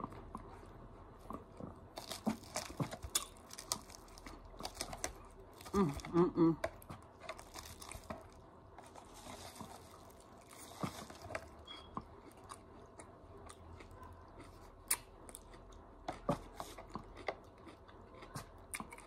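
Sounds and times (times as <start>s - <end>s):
mouth chewing crunchy food: 0.0s - 19.0s.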